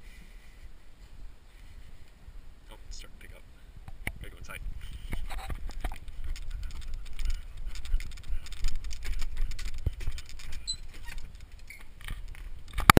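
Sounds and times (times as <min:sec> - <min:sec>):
wind buffeting microphone: 0:00.7 - 0:13.0.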